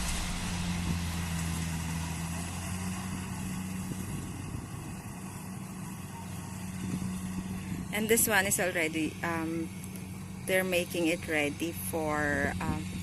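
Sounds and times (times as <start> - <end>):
farm machinery engine running: 0.0 - 13.0.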